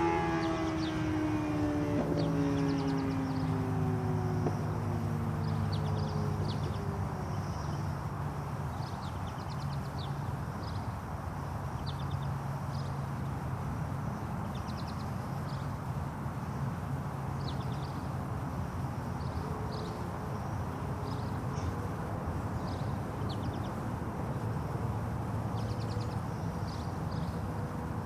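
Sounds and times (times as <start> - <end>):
distant motorcycle engine drone: 0.0 - 28.0.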